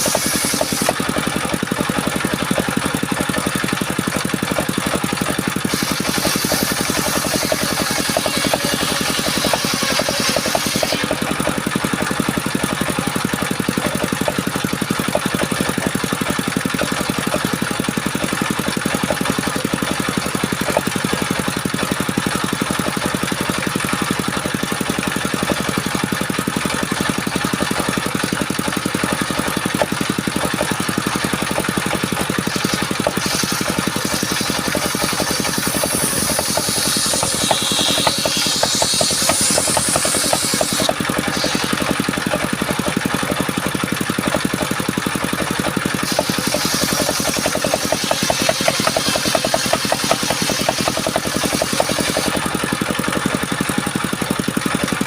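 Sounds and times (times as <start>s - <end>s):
blade hissing through wood: 0.0s - 23.2s, 27.1s - 54.7s
circular saw running: 0.0s - 55.0s.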